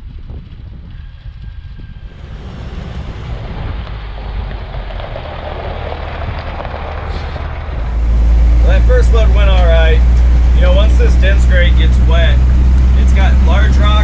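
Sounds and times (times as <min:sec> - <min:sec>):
diesel engine rumbling: 0:00.0 - 0:14.0
rushing noise: 0:00.7 - 0:14.0.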